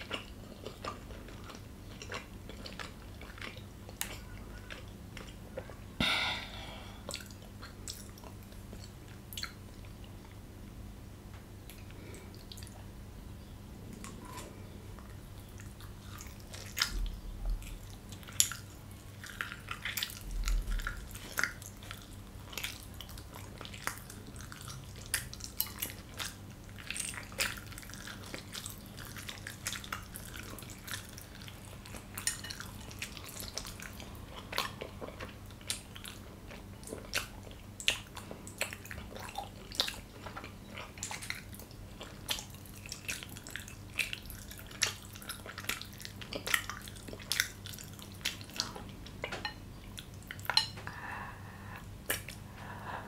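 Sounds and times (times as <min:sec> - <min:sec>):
open-mouthed wet chewing: 0:00.0 - 0:10.4, 0:11.6 - 0:12.9, 0:13.9 - 0:53.0
faint low hum: 0:00.0 - 0:53.0.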